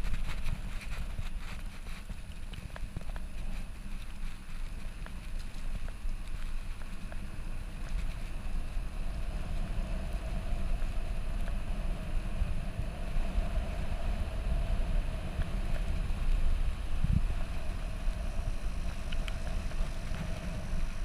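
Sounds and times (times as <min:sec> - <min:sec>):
outdoor background hiss: 0:00.0 - 0:21.0
wind buffeting microphone: 0:00.0 - 0:21.0.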